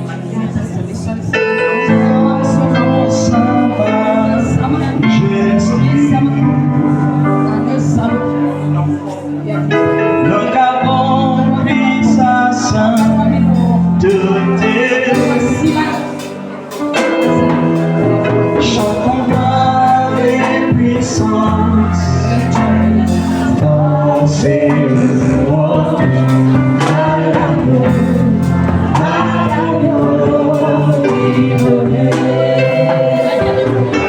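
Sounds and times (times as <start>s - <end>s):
gospel song with singing: 0.0s - 34.0s.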